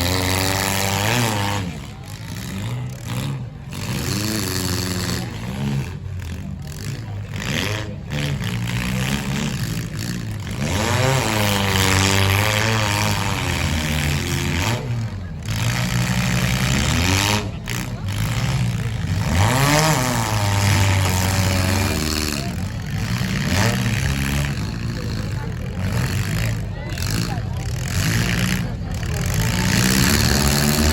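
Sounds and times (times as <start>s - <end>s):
car engines revving: 0.0s - 30.9s.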